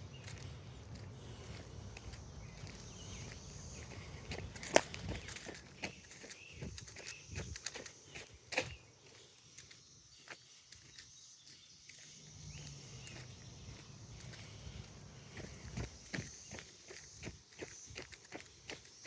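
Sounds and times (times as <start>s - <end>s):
footsteps on a trail: 0.0s - 19.0s
high insect hum: 0.0s - 19.0s.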